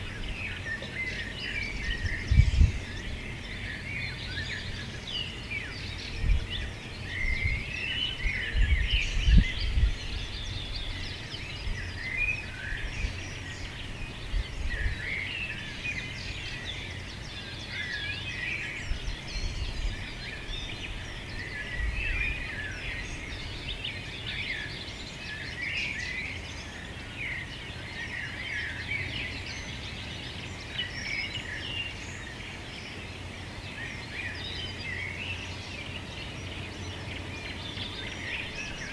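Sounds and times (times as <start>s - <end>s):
small birds singing and chirping: 0.0s - 38.9s.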